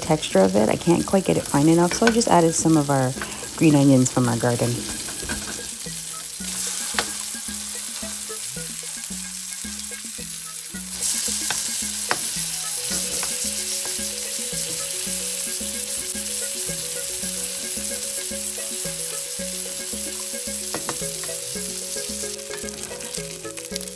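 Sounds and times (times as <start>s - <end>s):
background music with beat: 0.0s - 23.9s
patties sizzling in a pan: 0.0s - 23.9s.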